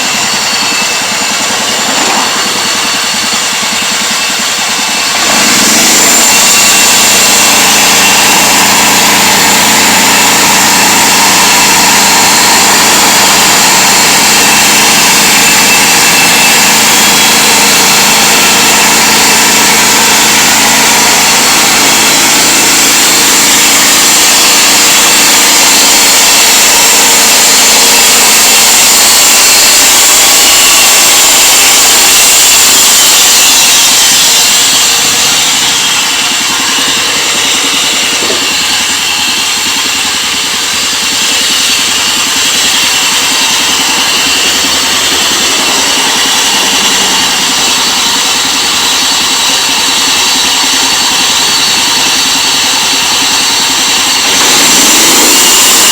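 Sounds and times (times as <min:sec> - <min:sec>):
sawmill engine revving: 0:00.0 - 0:55.9
thin high whine: 0:00.0 - 0:55.9.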